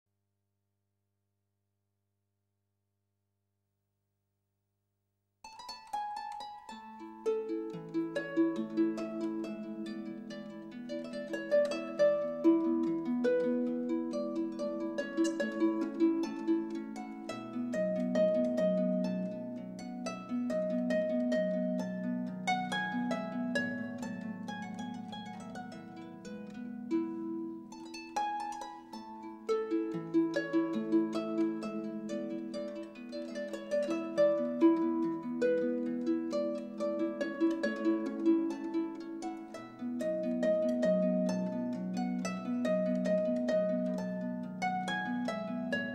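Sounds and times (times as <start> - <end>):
plucked harp-like notes: 5.5 - 45.9.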